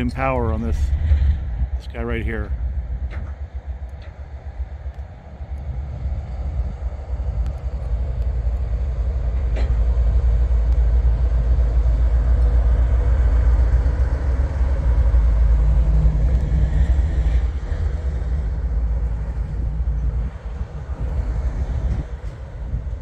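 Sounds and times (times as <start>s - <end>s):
diesel locomotive rumbling: 0.0s - 23.0s.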